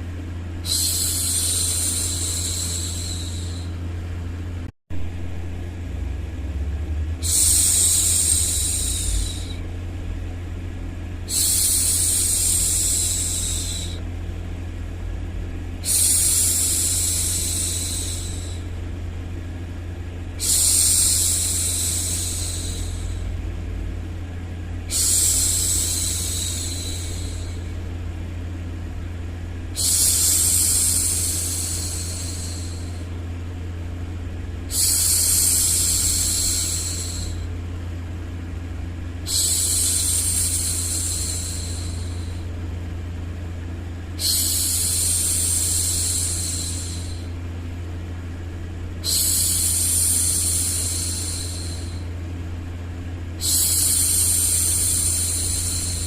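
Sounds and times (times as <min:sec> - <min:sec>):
low white noise: 0:00.0 - 0:56.0.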